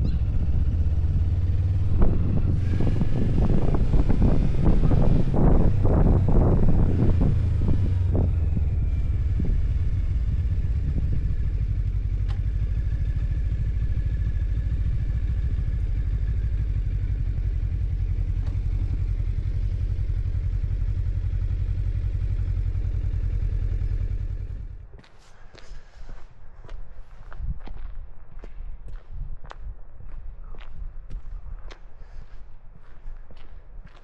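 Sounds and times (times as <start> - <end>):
vehicle engine and road rumble: 0.0 - 34.0.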